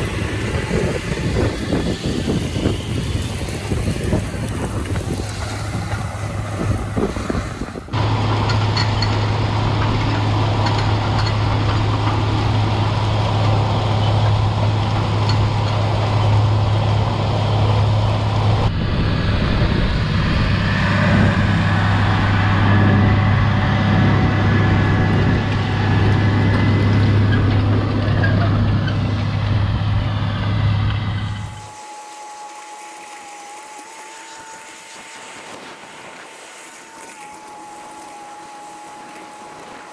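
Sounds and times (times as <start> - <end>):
rattling field noise: 0.0 - 39.9
tractor diesel engine drone: 0.0 - 39.9.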